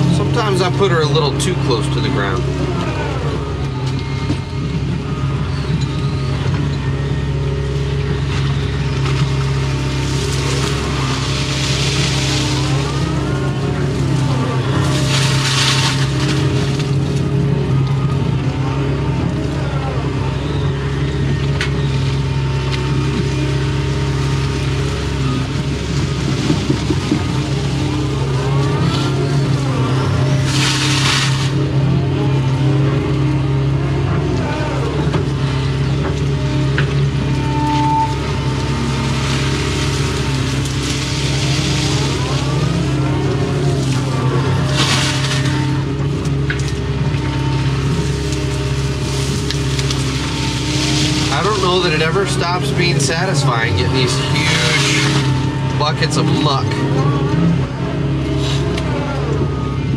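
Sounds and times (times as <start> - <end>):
excavator diesel engine running: 0.0 - 59.9
rising whine: 0.0 - 59.9.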